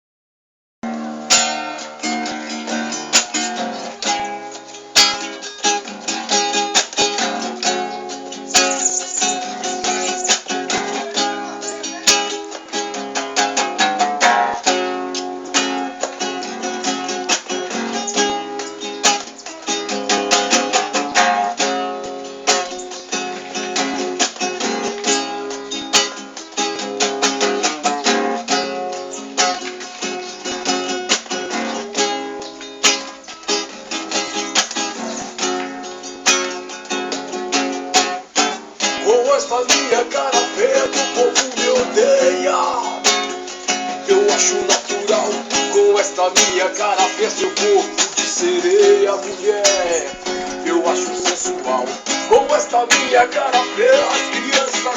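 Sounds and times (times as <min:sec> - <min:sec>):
plucked string music: 0:00.8 - 0:54.9.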